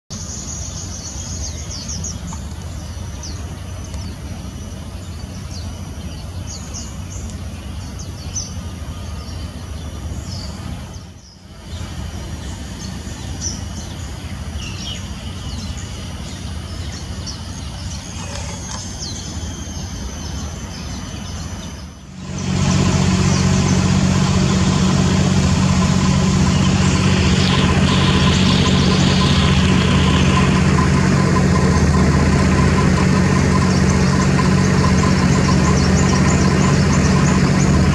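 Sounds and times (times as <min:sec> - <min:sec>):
low background rumble: 0:00.1 - 0:37.9
steady low engine hum: 0:00.1 - 0:37.9.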